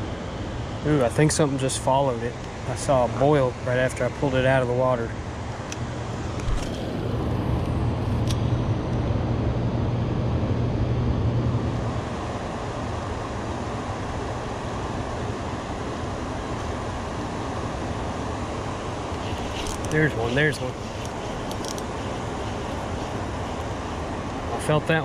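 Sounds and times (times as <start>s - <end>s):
low rumble and hiss: 0.0s - 25.0s.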